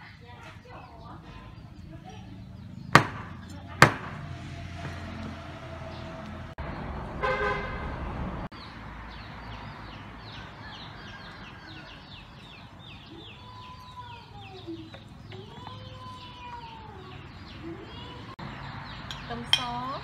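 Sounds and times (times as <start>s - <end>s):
small birds chirping: 0.0s - 7.0s, 8.4s - 20.0s.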